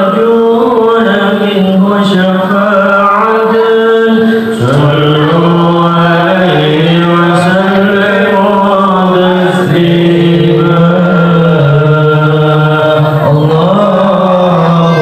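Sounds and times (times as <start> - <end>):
man chanting into microphone: 0.0 - 15.0.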